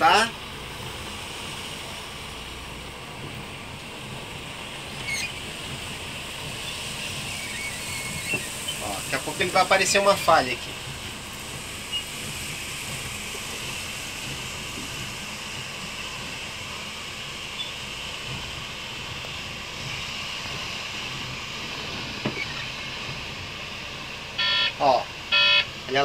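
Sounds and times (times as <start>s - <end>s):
truck engine and road hum: 0.0s - 26.0s.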